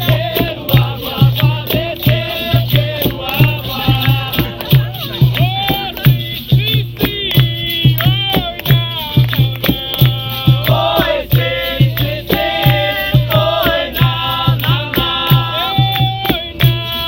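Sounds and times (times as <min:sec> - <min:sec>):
chanted singing: 0:00.0 - 0:17.0
steady drum beat: 0:00.0 - 0:17.0.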